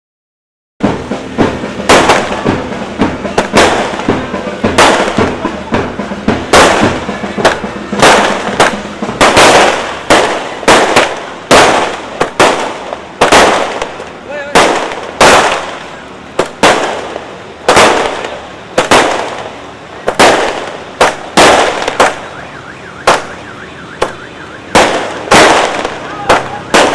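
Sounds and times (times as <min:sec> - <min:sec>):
fireworks bangs: 0:00.8 - 0:26.9.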